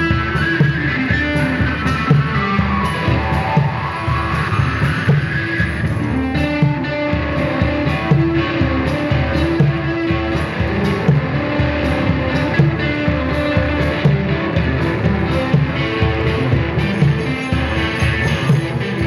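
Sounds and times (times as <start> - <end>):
electric guitar playing: 0.0 - 19.0
percussion beat: 0.0 - 19.0.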